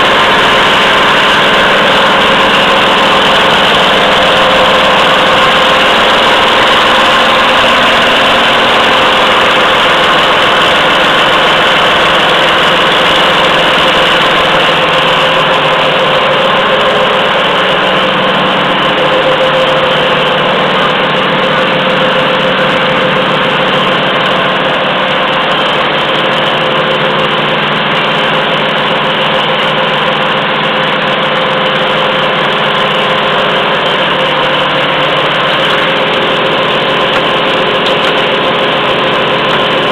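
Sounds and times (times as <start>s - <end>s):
machine running: 0.0s - 39.9s.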